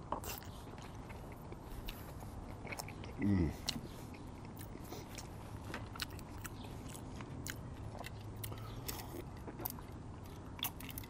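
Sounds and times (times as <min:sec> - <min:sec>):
chewing with mouth clicks: 0:00.0 - 0:11.0.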